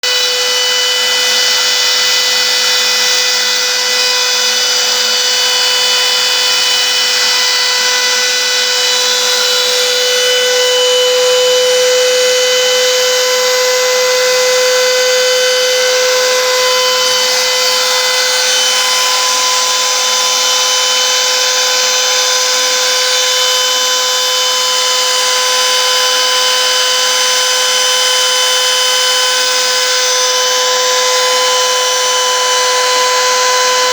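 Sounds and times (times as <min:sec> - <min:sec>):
cutting bit hissing on stone: 0:00.0 - 0:27.3
router spindle high whine: 0:00.0 - 0:33.9.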